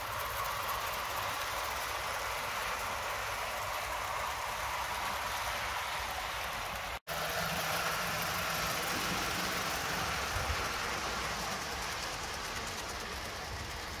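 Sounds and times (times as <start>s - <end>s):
model steam locomotive hissing: 0.0s - 14.0s
wheels rumbling on track: 0.0s - 14.0s.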